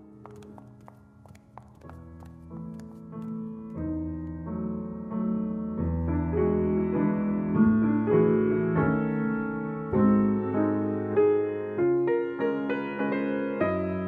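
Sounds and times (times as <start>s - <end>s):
slow classical piano: 0.0s - 14.0s.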